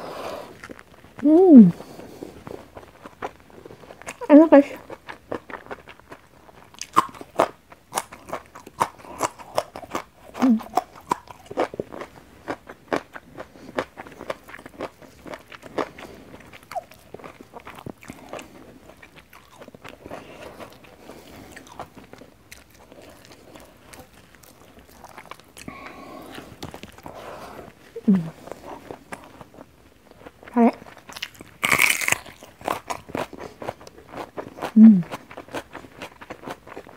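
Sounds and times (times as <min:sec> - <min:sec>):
crunching raw bean: 0:02.6 - 0:27.1, 0:30.8 - 0:36.9.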